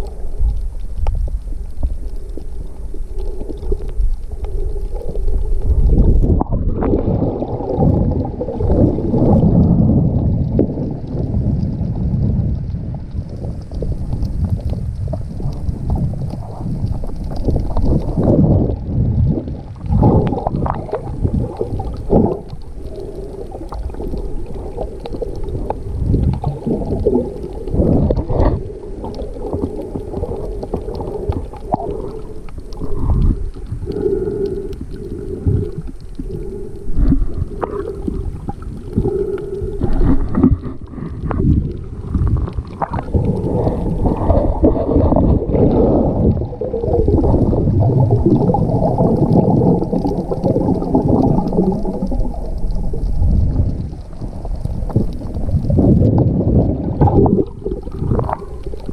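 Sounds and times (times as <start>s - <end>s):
muffled underwater sloshing: 0.0s - 58.9s.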